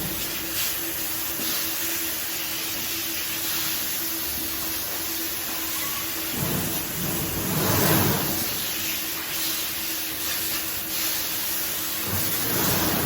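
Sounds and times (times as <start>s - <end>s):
low machine hum: 0.0s - 13.0s
milking machinery hissing: 0.0s - 13.0s.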